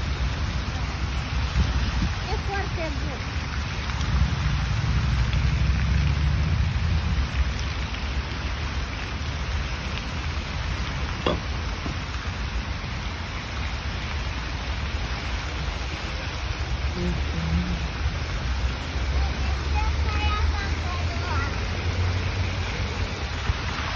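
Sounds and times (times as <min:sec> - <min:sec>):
fountain water splashing: 0:00.0 - 0:23.9.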